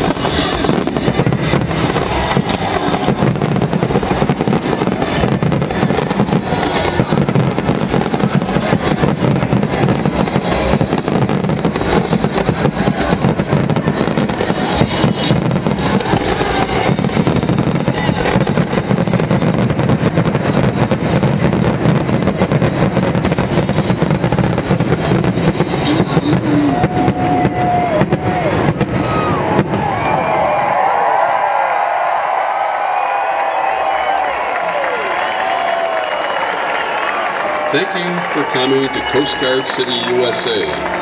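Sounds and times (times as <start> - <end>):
fireworks booming and crackling: 0.0 - 41.0.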